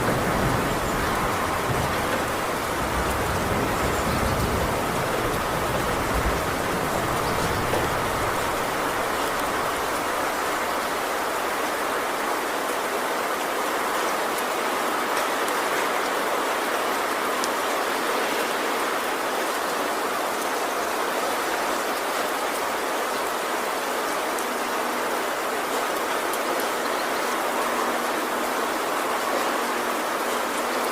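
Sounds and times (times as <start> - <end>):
heavy rain on a metal roof: 0.0 - 30.9.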